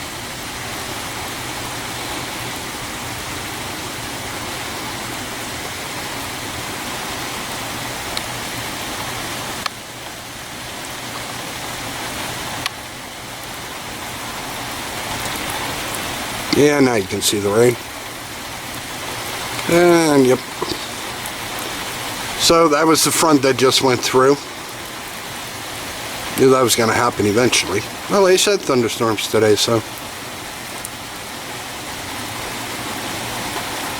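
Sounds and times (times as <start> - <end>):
hard rain falling: 0.0 - 33.9.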